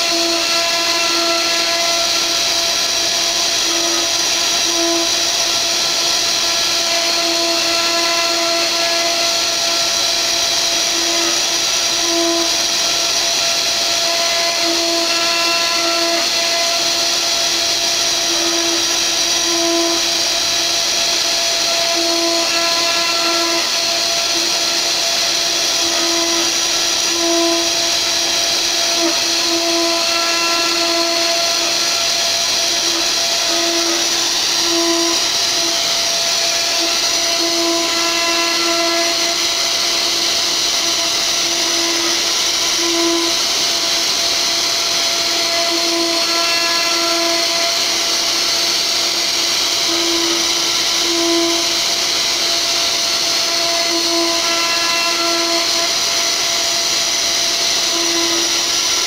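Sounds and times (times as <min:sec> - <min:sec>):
router spindle whining while milling wood: 0:00.0 - 0:59.0.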